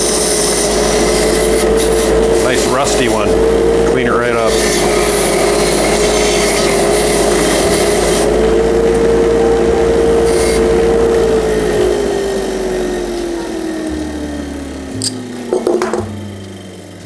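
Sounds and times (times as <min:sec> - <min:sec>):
bench grinder whine: 0:00.0 - 0:17.0
wire wheel scratchy brushing: 0:00.0 - 0:17.0.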